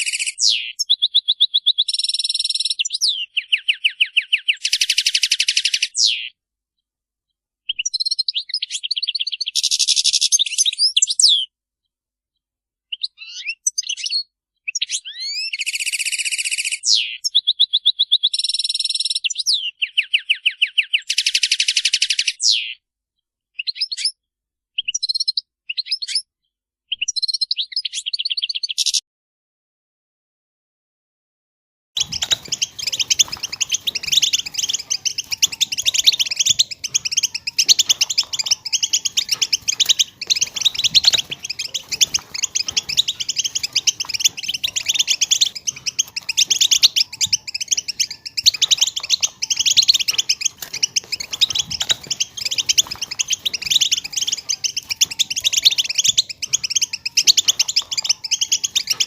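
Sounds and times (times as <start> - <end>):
goldfinch twittering song: 0.0 - 6.4, 7.7 - 11.5, 12.9 - 22.8, 24.8 - 26.2, 26.9 - 29.0, 32.0 - 59.0.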